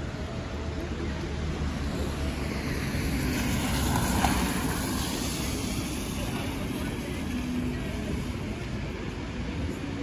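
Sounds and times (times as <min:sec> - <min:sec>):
tyres hissing on wet street: 0:00.0 - 0:10.0.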